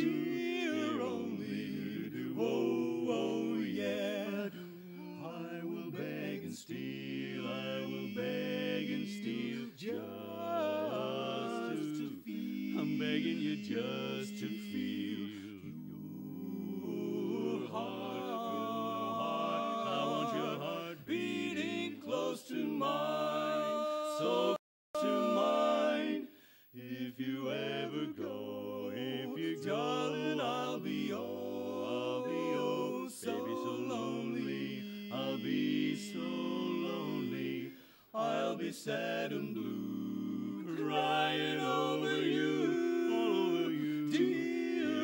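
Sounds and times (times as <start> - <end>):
male quartet singing a cappella: 0.0 - 45.0.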